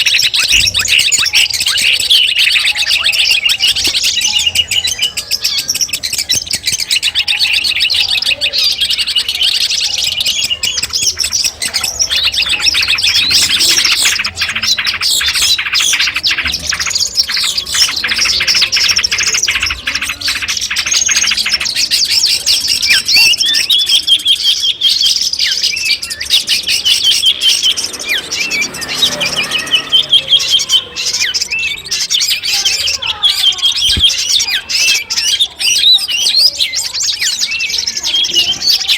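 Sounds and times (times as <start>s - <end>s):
bird singing chattering trills: 0.0s - 38.9s.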